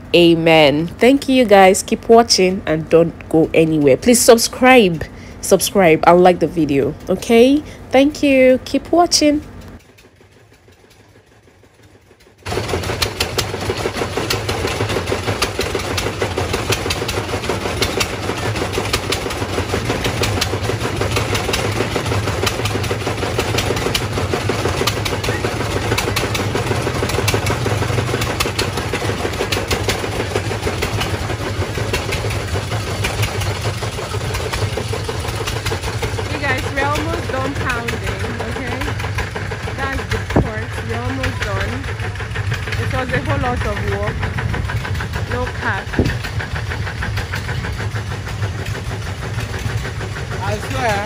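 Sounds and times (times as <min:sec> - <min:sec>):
engine knocking rattle: 0:00.0 - 0:51.0.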